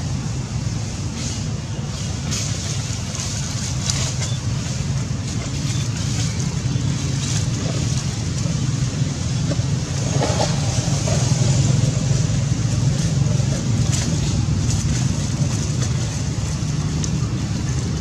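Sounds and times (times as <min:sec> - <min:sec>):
low engine-like hum: 0:00.0 - 0:18.0.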